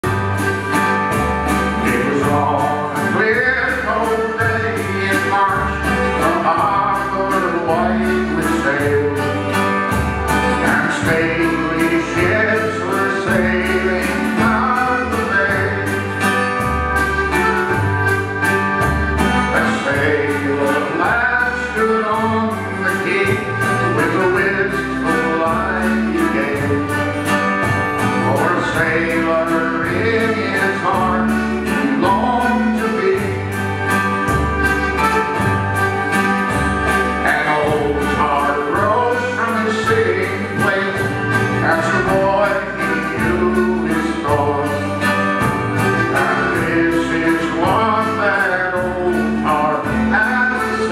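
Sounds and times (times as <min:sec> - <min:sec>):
live band playing shanty: 0:00.0 - 0:50.9
person singing: 0:01.5 - 0:50.9.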